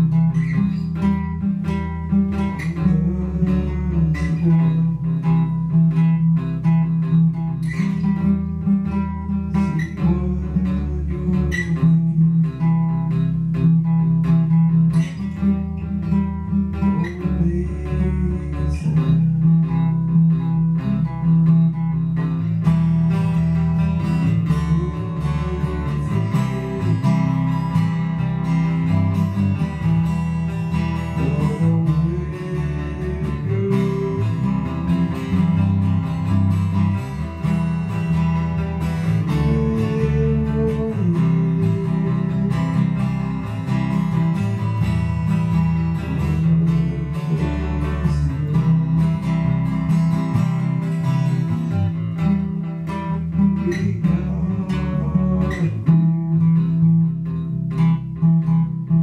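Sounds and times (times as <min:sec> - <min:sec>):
acoustic guitar strumming: 0:00.0 - 0:59.0
bass line: 0:00.0 - 0:59.0
electric guitar: 0:00.0 - 0:59.0.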